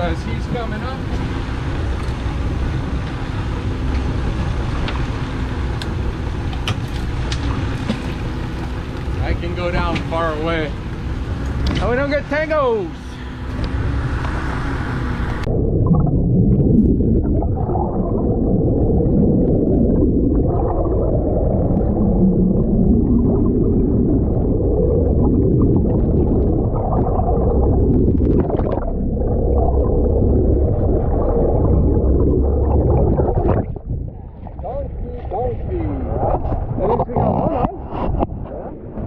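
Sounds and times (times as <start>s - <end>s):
underwater rumble with gurgling: 0.0s - 39.0s.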